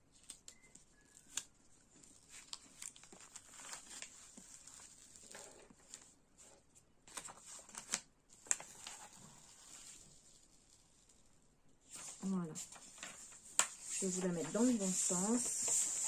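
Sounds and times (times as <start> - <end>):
plastic film peeling crinkling: 0.1 - 6.2, 7.1 - 11.3, 11.9 - 16.0.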